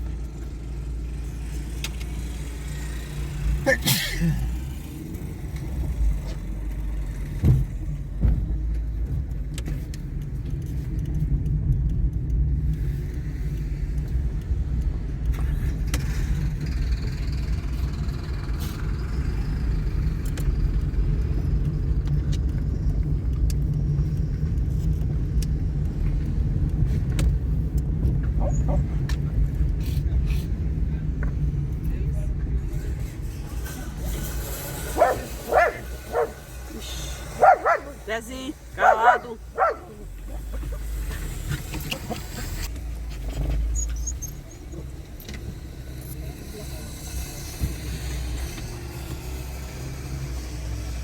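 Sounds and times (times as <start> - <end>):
car driving rumble: 0.0 - 51.0.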